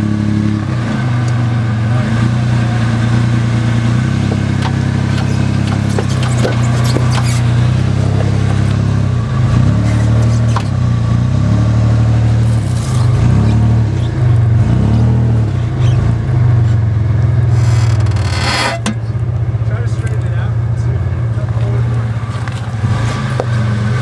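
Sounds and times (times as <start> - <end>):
engine revving at crawling speed: 0.0 - 24.0.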